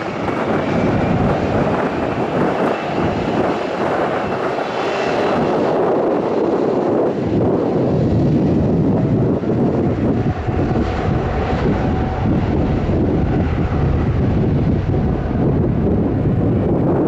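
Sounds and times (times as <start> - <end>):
airliner engines roaring: 0.0 - 17.0
deep rumble: 0.0 - 17.0.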